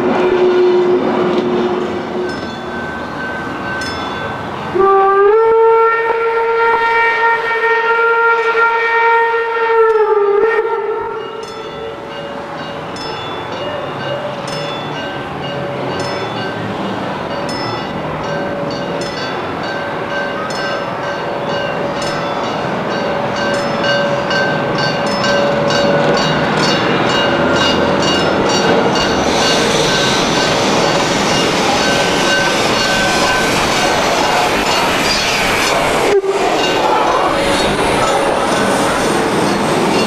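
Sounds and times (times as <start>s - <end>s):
steam locomotive exhaust beats: 0.0s - 40.0s.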